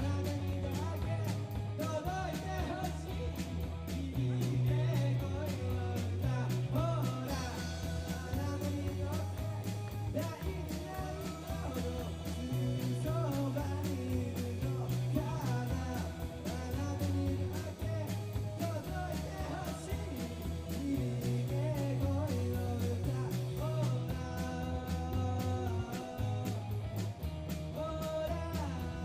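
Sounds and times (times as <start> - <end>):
electric bass: 0.0 - 29.0
steady drum beat: 0.0 - 29.0.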